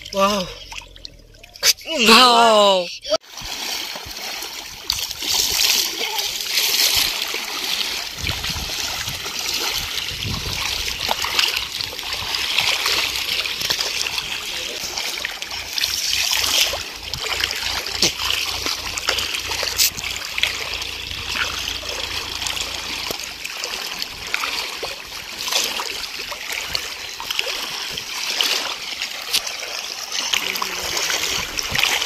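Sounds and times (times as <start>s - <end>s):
water splashing around wading legs: 0.0s - 2.1s, 3.2s - 32.0s.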